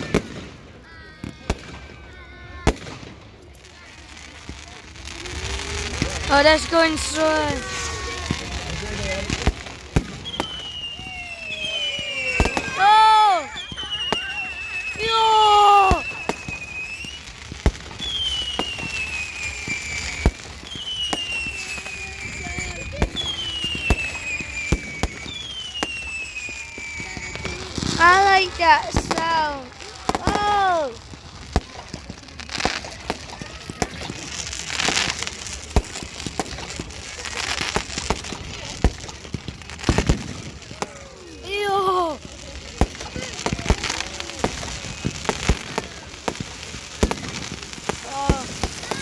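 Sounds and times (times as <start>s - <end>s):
firework bangs: 0.0s - 49.0s
firework pops: 0.0s - 49.0s
whistling fireworks: 0.0s - 49.0s.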